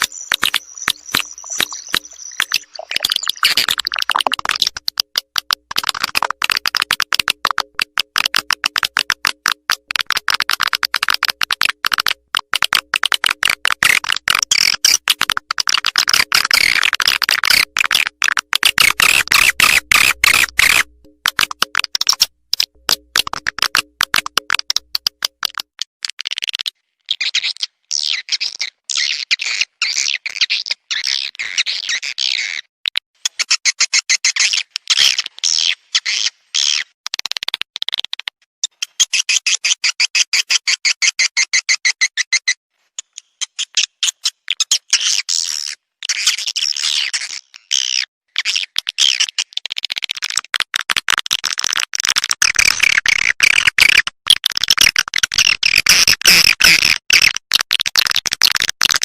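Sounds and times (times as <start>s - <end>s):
high dry bird chirps and clicks: 0.0s - 50.4s, 51.4s - 59.0s.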